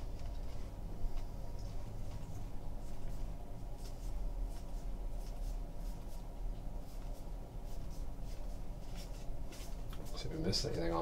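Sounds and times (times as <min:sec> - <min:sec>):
steady low hum: 0:00.0 - 0:11.0
cards swishing against cards: 0:00.1 - 0:10.2.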